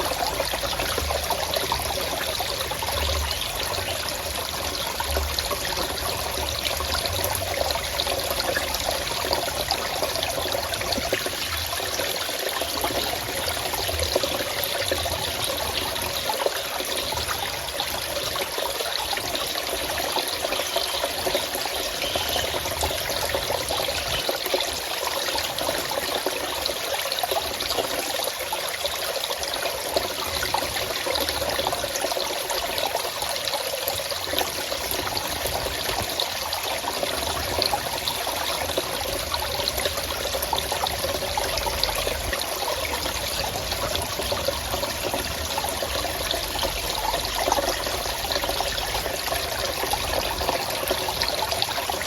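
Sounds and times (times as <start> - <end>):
stream water trickling: 0.0 - 52.0.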